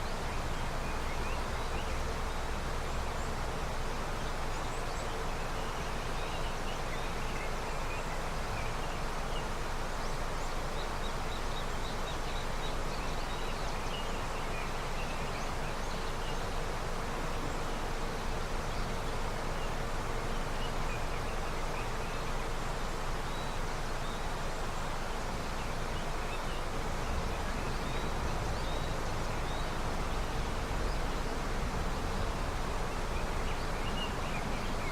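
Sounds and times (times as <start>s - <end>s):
river flowing: 0.0s - 34.9s
small birds chirping: 0.0s - 34.9s.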